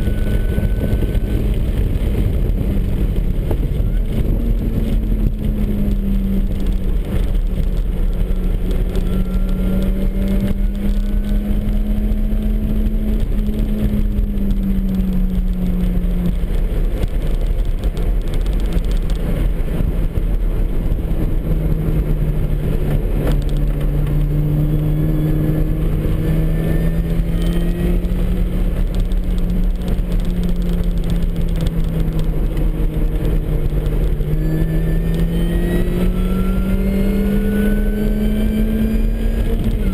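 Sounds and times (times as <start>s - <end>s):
car engine running hard: 0.0s - 39.9s
road and wind rumble: 0.0s - 39.9s.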